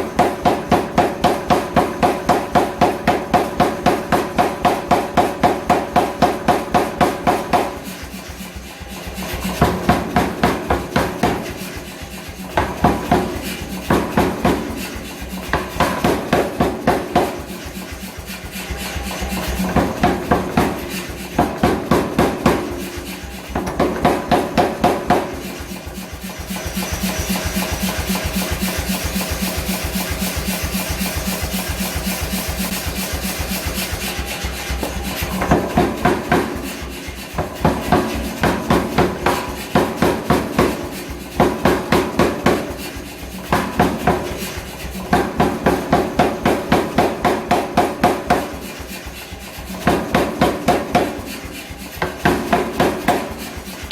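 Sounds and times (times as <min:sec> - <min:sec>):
hammer blows on anvil: 0:00.0 - 0:53.9.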